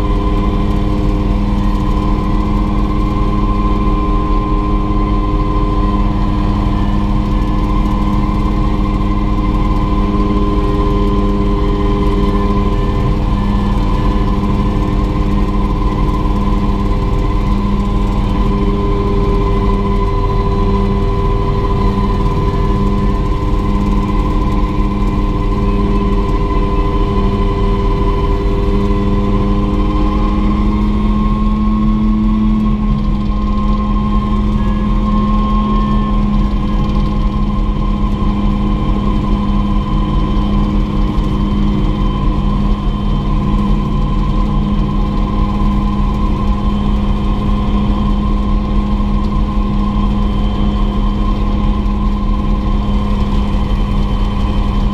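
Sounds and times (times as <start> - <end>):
helicopter turbine engine running: 0.0 - 54.9.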